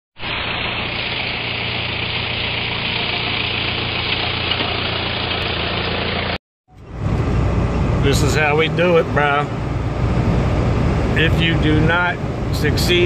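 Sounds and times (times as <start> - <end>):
truck engine running: 0.2 - 13.0.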